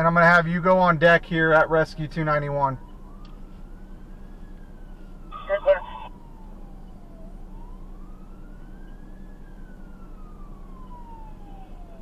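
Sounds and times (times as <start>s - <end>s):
emergency siren wailing: 0.0s - 12.0s.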